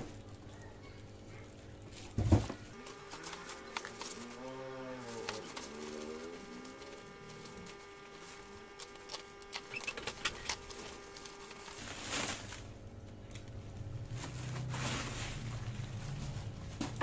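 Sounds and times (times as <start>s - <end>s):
bubble wrap and plastic bag crinkling: 2.7s - 16.9s.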